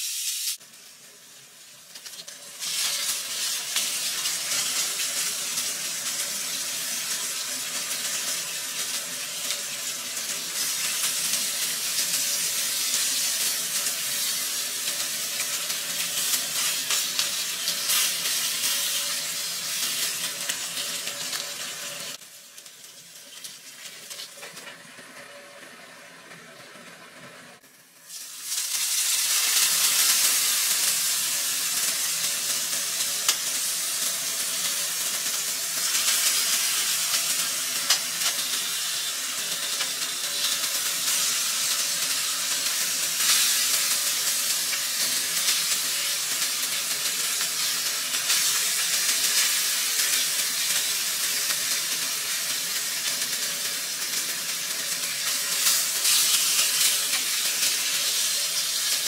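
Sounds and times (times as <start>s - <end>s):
fish sizzling in hot oil: 0.0s - 24.7s, 27.8s - 59.0s.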